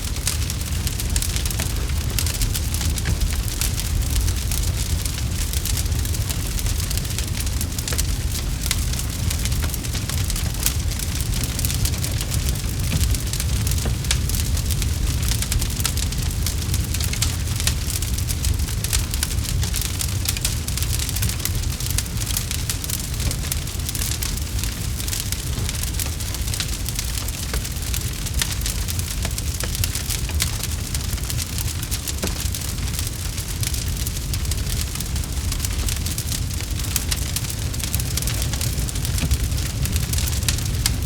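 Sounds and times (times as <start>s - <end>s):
campfire crackling: 0.0s - 41.0s
low continuous rumble: 0.0s - 41.0s.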